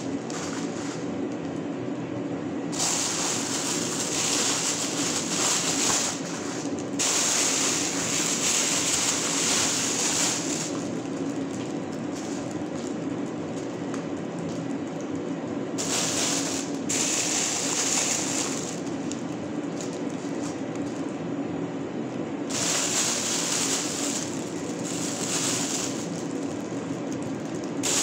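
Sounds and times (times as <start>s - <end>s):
steady low hum: 0.0s - 28.0s
plastic bags rustling: 2.7s - 15.1s, 15.8s - 21.1s, 22.5s - 28.0s.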